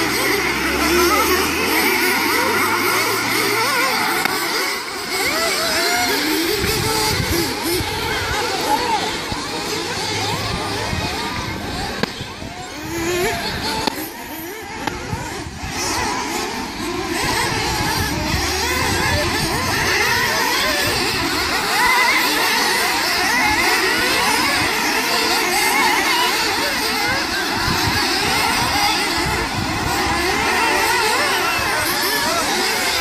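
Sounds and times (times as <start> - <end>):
radio-controlled car motors revving: 0.0 - 33.0.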